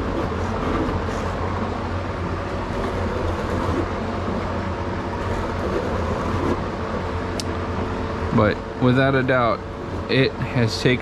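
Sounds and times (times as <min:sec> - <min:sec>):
machine humming and rushing: 0:00.0 - 0:11.0.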